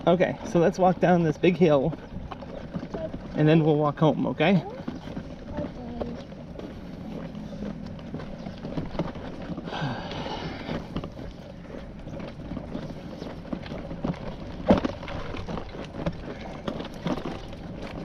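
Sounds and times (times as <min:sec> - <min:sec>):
footsteps on pavement: 0:00.0 - 0:18.0.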